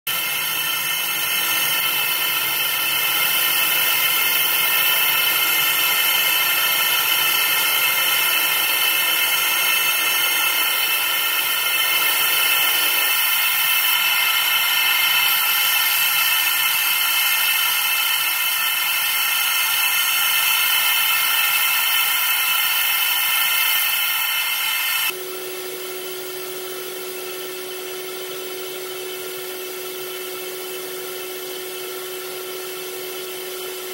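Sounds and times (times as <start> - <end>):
laser engraving machine whirring: 0.1 - 33.9.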